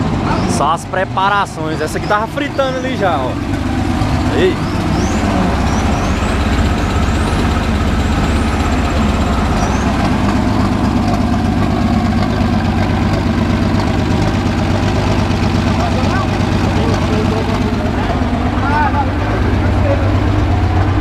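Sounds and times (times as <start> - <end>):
race car engine idling: 0.0 - 21.0.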